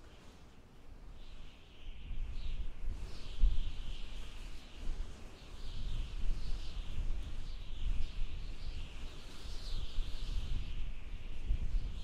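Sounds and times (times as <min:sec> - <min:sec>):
strong gusting wind: 0:01.0 - 0:12.0.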